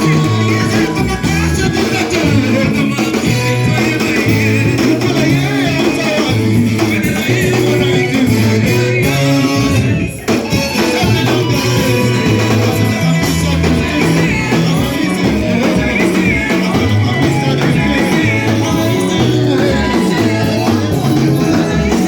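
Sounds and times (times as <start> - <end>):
person singing: 0.0 - 22.0
worship band playing: 0.0 - 22.0.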